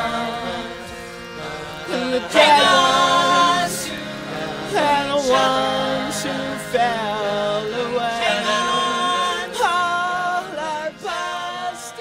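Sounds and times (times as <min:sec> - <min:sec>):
voices singing: 0:00.0 - 0:12.0.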